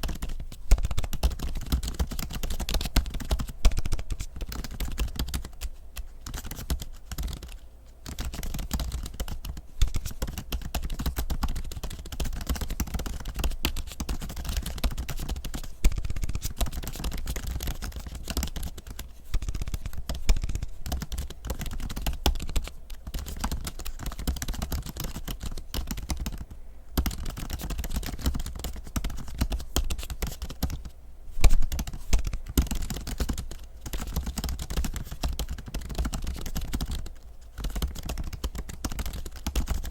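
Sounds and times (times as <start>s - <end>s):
laptop keyboard typing: 0.0s - 39.9s.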